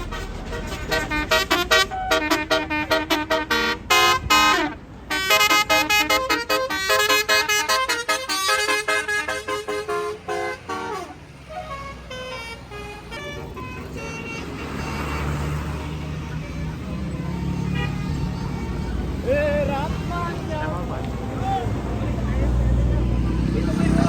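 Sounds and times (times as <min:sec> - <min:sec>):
bus horn playing fast tune: 0:00.0 - 0:20.7
bus engine rumble: 0:00.0 - 0:24.0.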